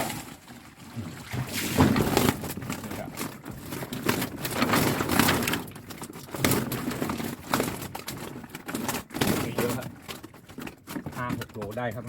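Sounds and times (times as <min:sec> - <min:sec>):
fish thrashing in a trap: 0:00.0 - 0:12.0.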